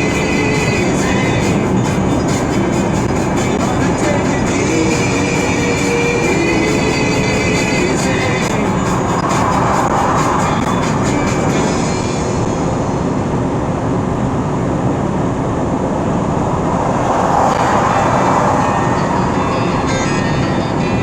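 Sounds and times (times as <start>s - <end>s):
vehicle road noise at highway speed: 0.0s - 21.0s.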